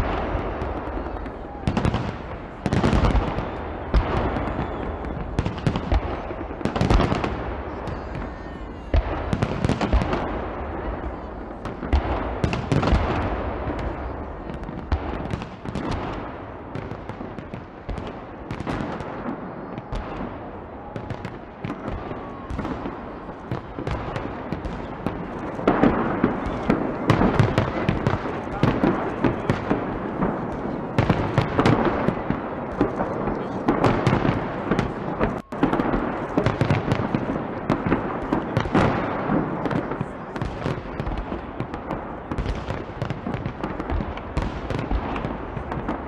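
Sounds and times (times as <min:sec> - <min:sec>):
fireworks crackling: 0:00.0 - 0:46.0.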